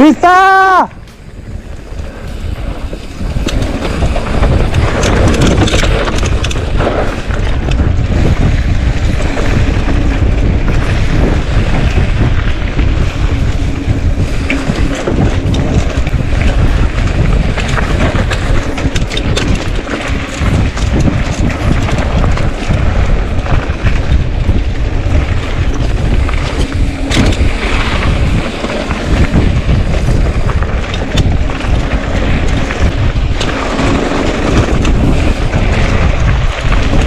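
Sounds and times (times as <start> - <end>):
bike rattling on dirt trail: 0.0 - 37.0
wind buffeting microphone: 0.0 - 37.0.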